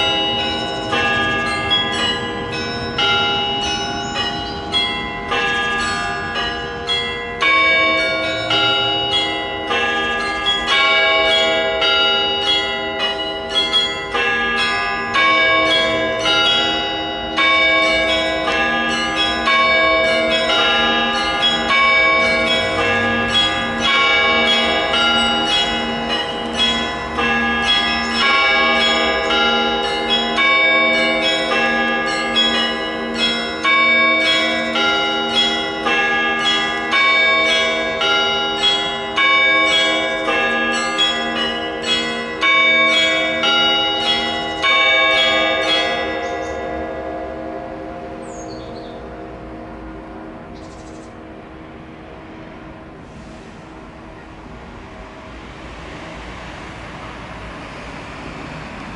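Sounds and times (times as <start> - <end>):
low bell tolling: 0.0 - 51.5
church bells pealing: 0.0 - 58.9.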